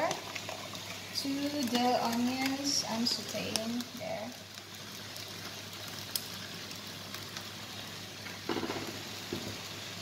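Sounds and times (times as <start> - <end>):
onions sizzling in a frying pan: 0.0 - 10.0.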